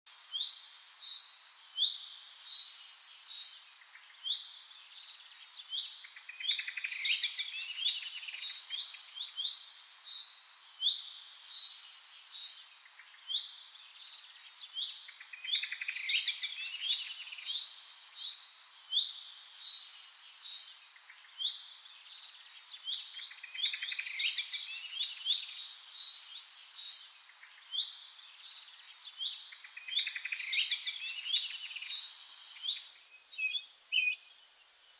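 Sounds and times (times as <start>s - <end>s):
songbirds chirping and trilling: 0.1s - 34.9s.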